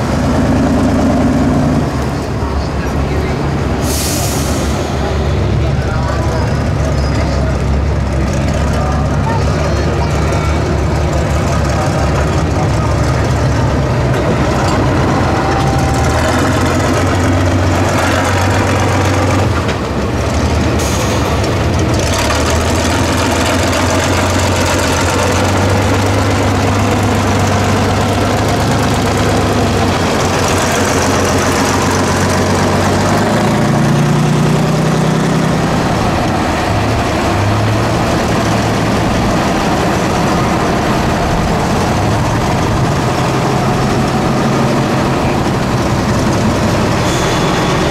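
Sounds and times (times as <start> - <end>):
heavy diesel truck engine under load: 0.0 - 47.9.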